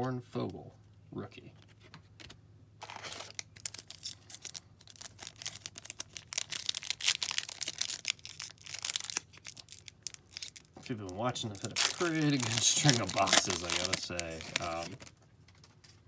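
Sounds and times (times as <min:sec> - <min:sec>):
foil pack being torn and crinkled: 0:02.8 - 0:16.0.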